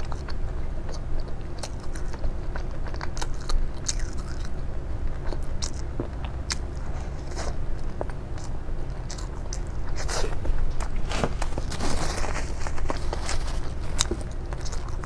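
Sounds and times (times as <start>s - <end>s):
crunching and chewing: 0.0s - 15.0s
steady low hum: 0.0s - 15.0s.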